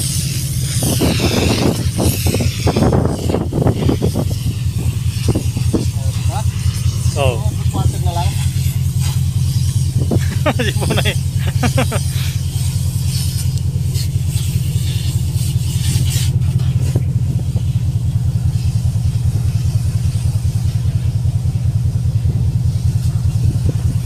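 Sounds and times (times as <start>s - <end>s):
fire hose hissing: 0.0s - 24.0s
ship machinery droning: 0.0s - 24.0s.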